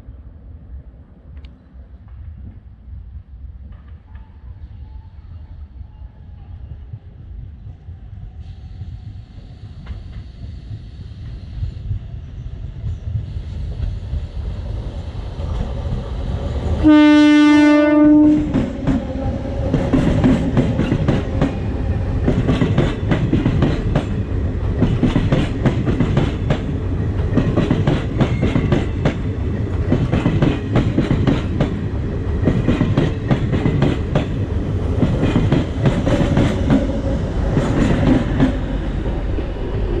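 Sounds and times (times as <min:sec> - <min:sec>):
train wheels rumbling on rails: 0:01.1 - 0:40.0.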